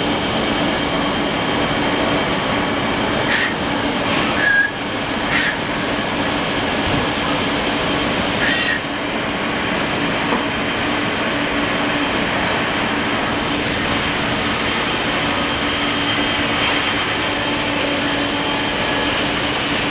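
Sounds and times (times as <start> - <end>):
lathe running: 0.0 - 19.9.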